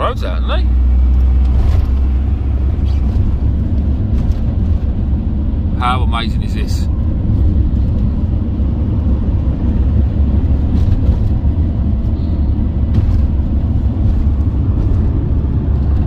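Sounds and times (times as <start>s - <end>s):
van engine and road rumble: 0.0s - 16.0s.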